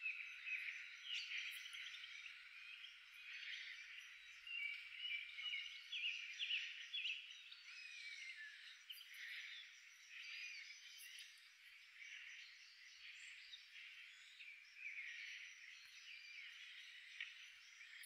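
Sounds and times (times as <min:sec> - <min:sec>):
finches twittering chirps: 0:00.0 - 0:18.0.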